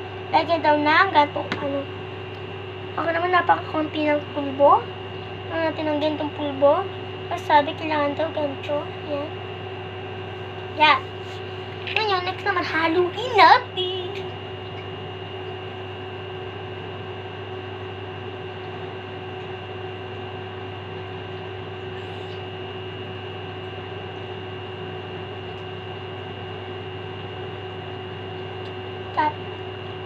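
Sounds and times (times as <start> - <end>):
electric fan humming: 0.0 - 30.0.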